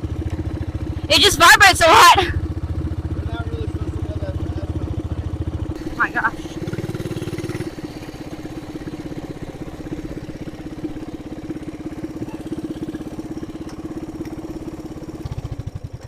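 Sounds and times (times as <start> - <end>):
mini bike engine idling: 0.0 - 16.0.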